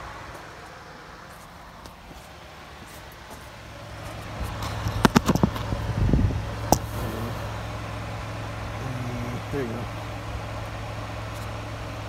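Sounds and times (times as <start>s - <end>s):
electric radiator fan humming: 0.0s - 12.0s.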